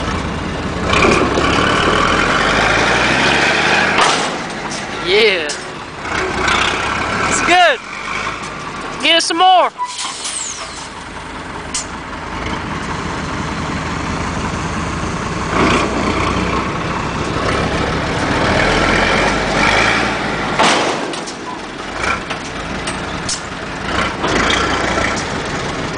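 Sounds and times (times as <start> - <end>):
heavy truck engine running: 0.0 - 25.9.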